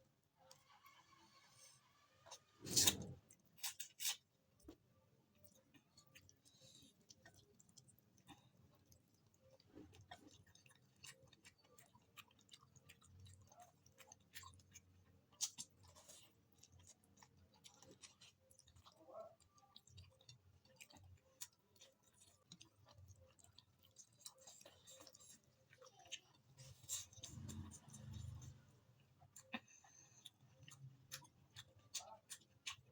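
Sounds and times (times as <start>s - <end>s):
person chewing: 2.3s - 4.7s, 5.3s - 32.9s.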